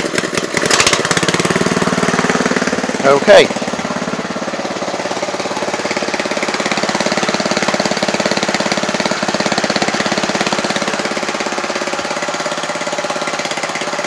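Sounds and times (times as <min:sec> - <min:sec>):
petrol engine running slowly: 0:00.0 - 0:14.0.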